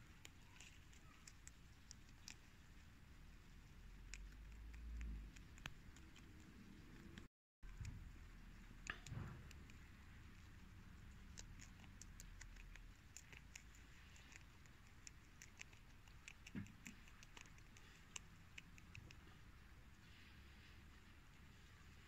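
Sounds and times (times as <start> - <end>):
rabbit crunching cabbage: 0.0 - 22.0.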